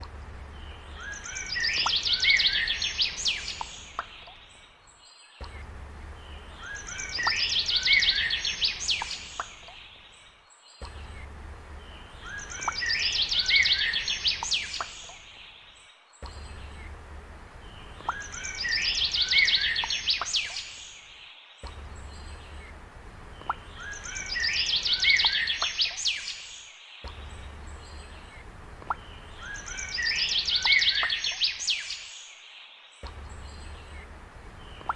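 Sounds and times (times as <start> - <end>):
faint low hum: 0.0 - 4.8, 5.4 - 20.6, 21.6 - 25.8, 27.0 - 31.3, 33.0 - 34.9
bird song trills and whistles: 0.0 - 34.9.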